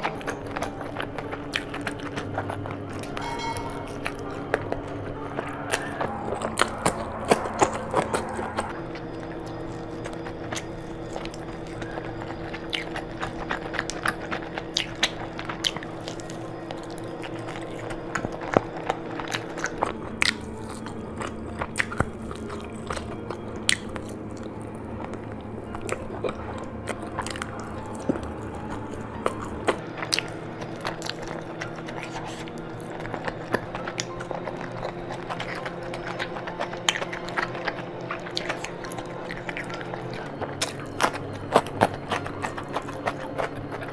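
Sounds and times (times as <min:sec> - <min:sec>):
faint steady hum: 0:00.0 - 0:43.9
person chewing food: 0:00.0 - 0:43.9.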